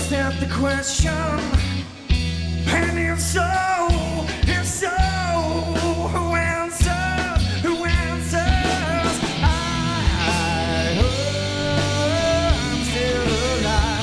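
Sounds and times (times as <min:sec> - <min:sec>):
rock song with male singer: 0:00.0 - 0:14.0.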